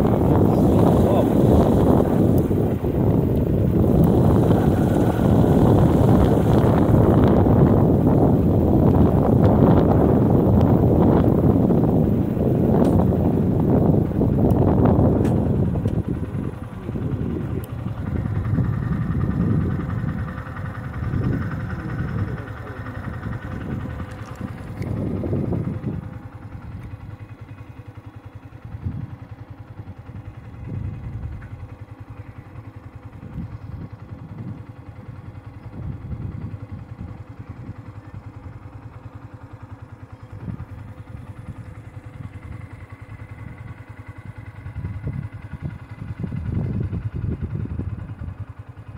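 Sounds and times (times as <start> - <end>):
wind gusting on microphone: 0.0 - 27.2, 28.6 - 31.8, 33.0 - 38.4, 40.4 - 48.6
small vehicle engine running: 0.0 - 48.9.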